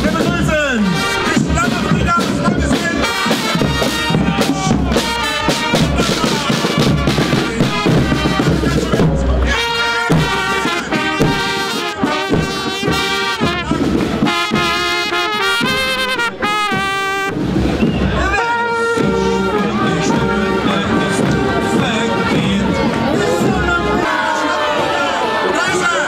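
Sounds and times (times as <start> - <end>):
snare and bass drums beat: 0.0 - 25.0
trumpets and trombones playing: 0.0 - 26.0.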